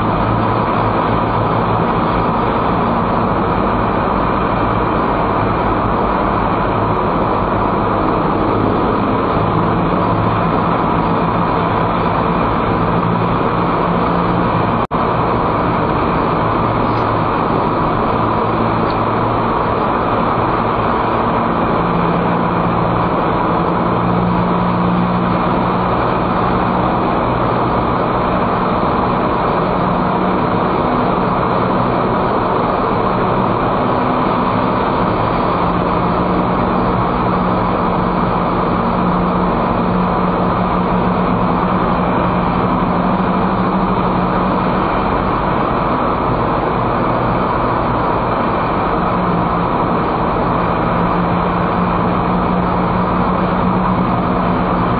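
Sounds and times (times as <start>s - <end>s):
low engine hum: 0.0s - 54.9s
tyre and road noise in tunnel: 0.0s - 54.9s.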